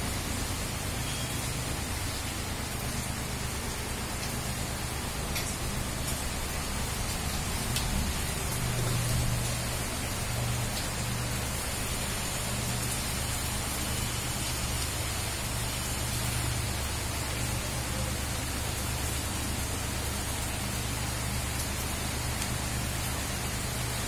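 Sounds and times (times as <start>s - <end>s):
steady rain on a road: 0.0s - 24.0s.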